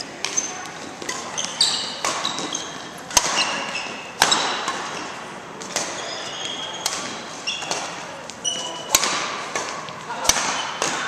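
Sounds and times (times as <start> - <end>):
sneakers squeaking on court: 0.0 - 11.0
racket hitting shuttlecock: 0.2 - 11.0.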